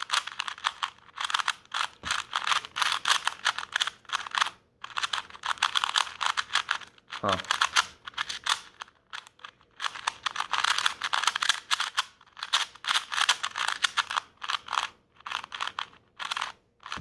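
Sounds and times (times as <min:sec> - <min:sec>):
plastic cube pieces clicking: 0:00.0 - 0:17.0.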